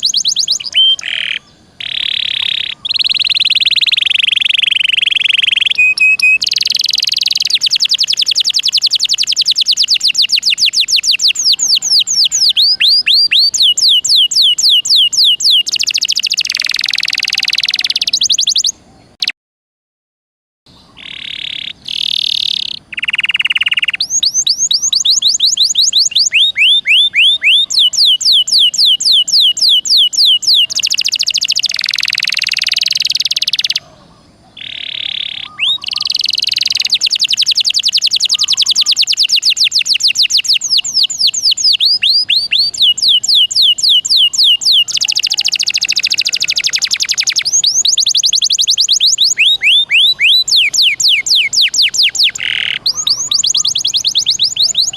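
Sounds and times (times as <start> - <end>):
canary singing trills: 0.0 - 19.3, 20.7 - 54.9.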